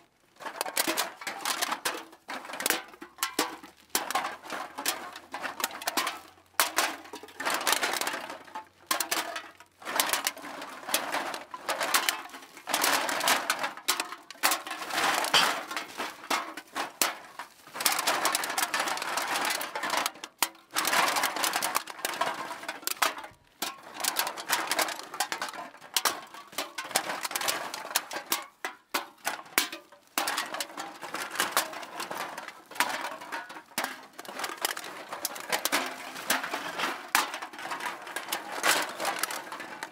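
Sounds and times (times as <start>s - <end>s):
small hard objects clattering: 0.0s - 39.9s.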